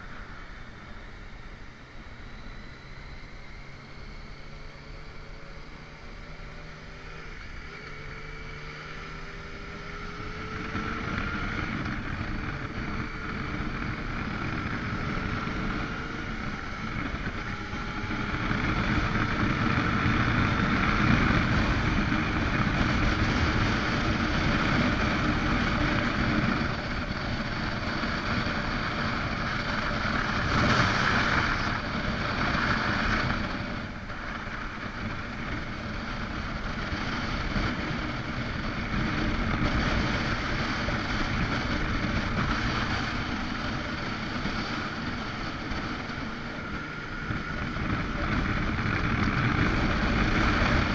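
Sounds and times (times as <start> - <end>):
motorcycle engine accelerating: 0.0 - 50.9
wind rush on microphone: 9.5 - 50.9.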